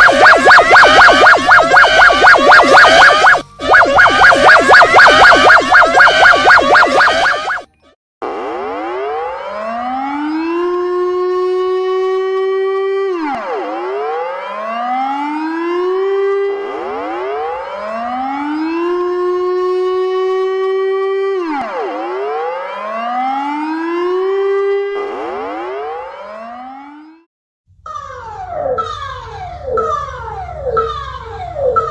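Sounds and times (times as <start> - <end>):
civil defense siren wailing: 0.0 - 27.2.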